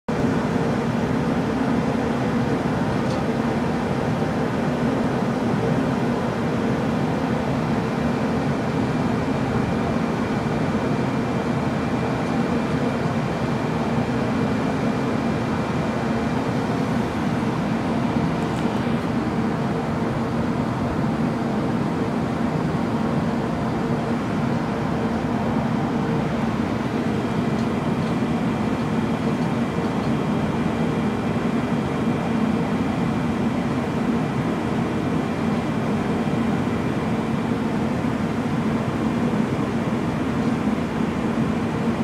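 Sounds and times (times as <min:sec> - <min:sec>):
ship machinery humming: 0:00.1 - 0:42.0.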